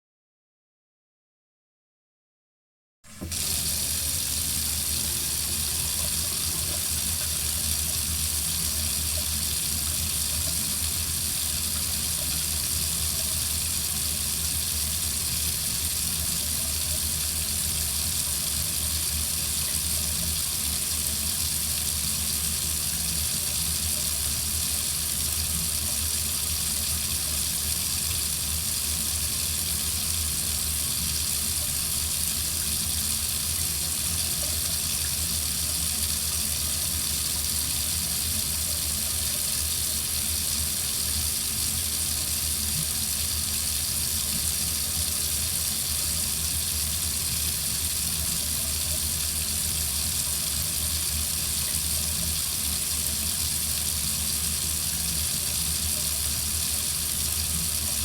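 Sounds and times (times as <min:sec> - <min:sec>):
faucet running into sink: 0:03.1 - 0:58.0.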